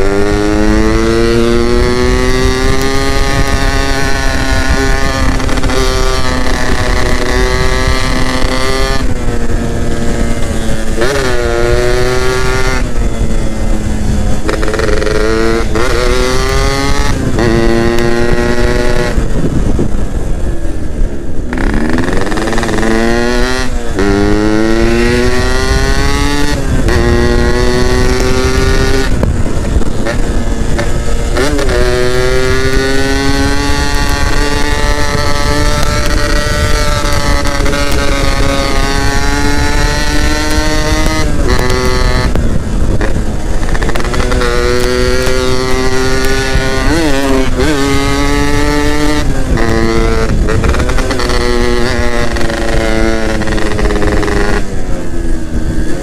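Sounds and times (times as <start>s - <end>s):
two-stroke engine accelerating: 0.0s - 56.0s.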